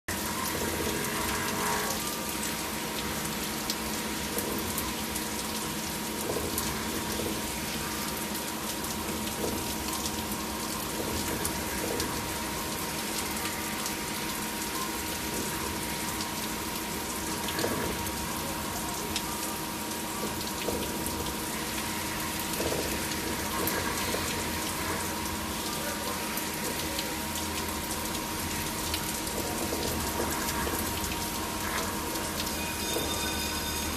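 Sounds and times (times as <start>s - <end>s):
milling machine high whine: 0.1s - 33.9s.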